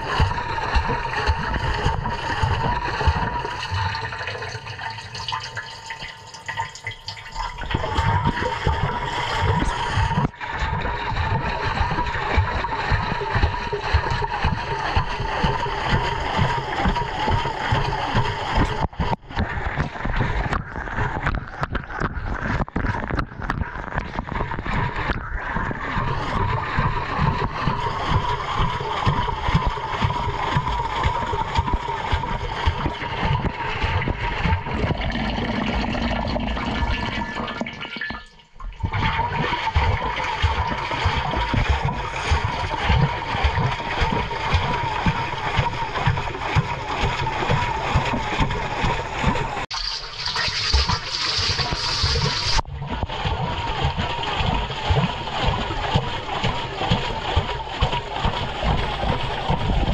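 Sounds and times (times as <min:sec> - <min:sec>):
water sloshing in washing machine: 0:00.0 - 0:59.9.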